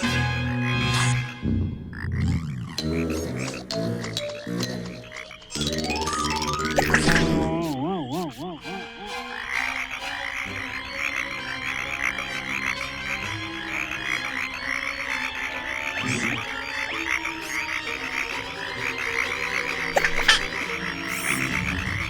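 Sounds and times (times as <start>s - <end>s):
background music held notes: 0.0s - 1.5s, 2.8s - 22.0s
frogs croaking: 0.0s - 22.0s.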